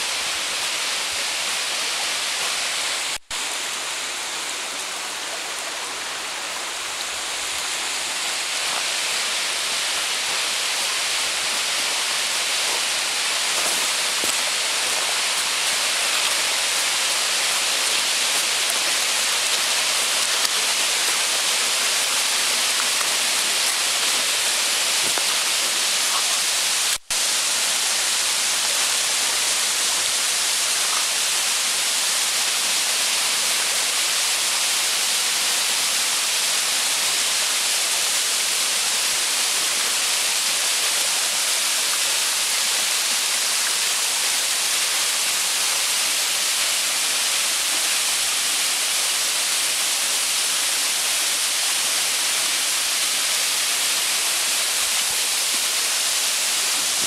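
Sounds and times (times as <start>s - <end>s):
creek and waterfall rushing: 0.0s - 57.0s.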